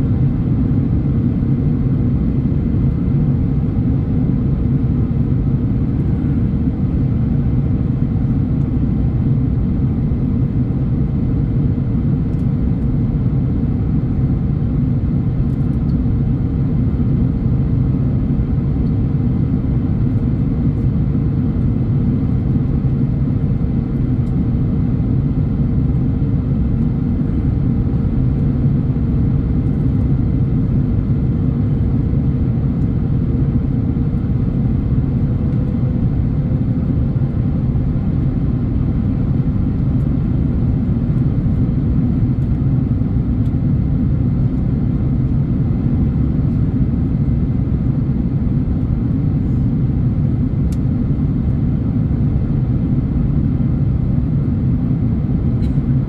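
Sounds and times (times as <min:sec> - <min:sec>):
airplane cabin drone: 0:00.0 - 0:56.0
faint steady hum: 0:00.0 - 0:56.0.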